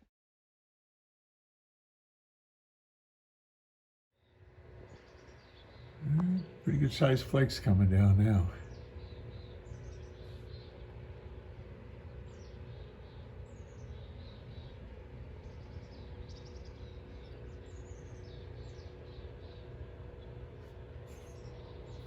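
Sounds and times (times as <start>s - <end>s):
low background hum: 4.2s - 22.0s
small birds chirping: 4.2s - 22.0s.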